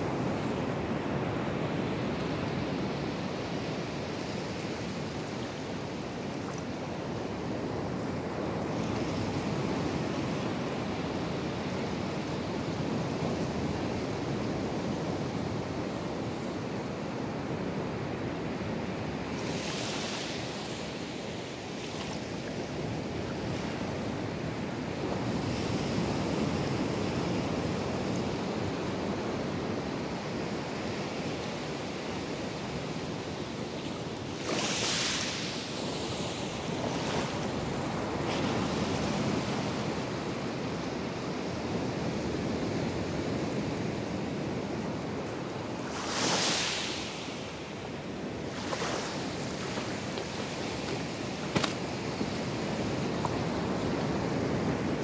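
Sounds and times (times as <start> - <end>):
waves washing on beach: 0.0 - 55.0.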